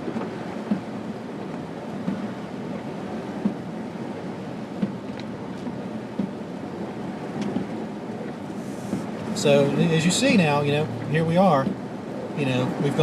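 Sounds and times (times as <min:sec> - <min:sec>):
tyres and engine rumble: 0:00.0 - 0:13.0.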